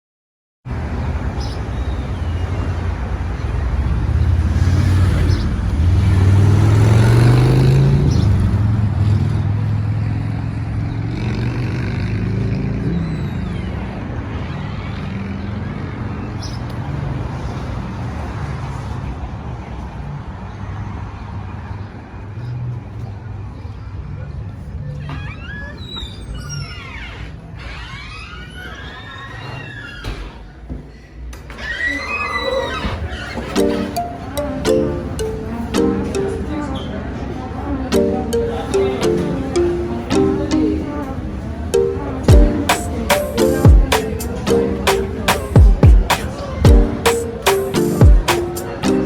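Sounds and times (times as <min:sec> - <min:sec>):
road traffic noise: 0:00.7 - 0:25.0, 0:32.9 - 0:49.0.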